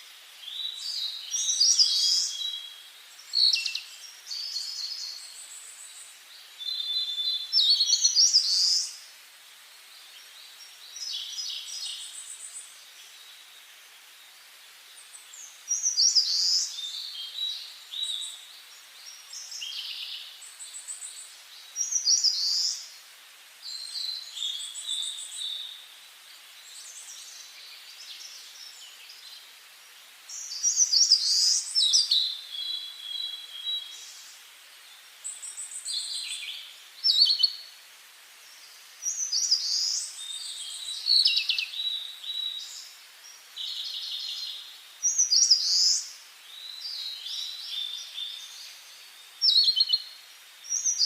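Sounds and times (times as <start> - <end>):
faint steady hush: 0.0 - 51.0
songbirds singing: 0.0 - 51.0.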